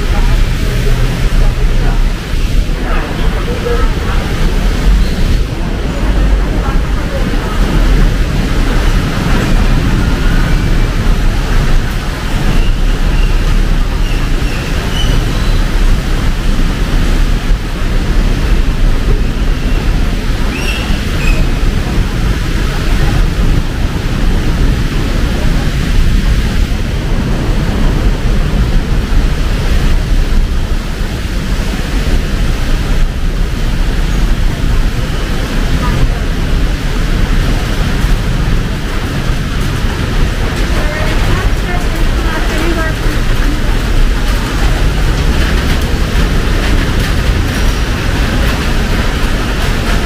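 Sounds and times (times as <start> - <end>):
city road traffic: 0.0 - 50.0
heavy rain pouring: 0.0 - 50.0.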